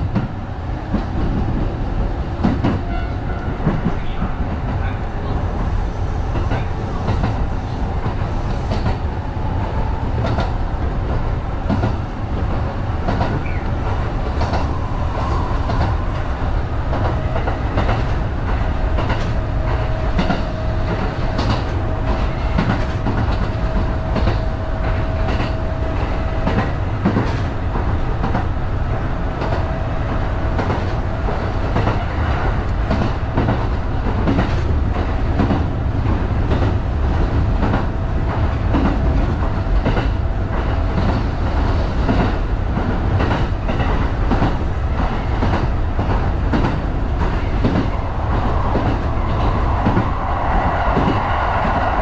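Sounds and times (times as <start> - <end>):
train running low rumble: 0.0 - 52.0.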